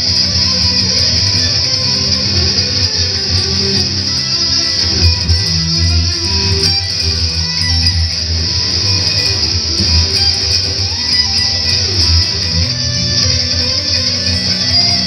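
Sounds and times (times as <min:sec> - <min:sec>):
bass line: 0:00.0 - 0:15.0
electric guitar through amplifier: 0:00.0 - 0:15.0.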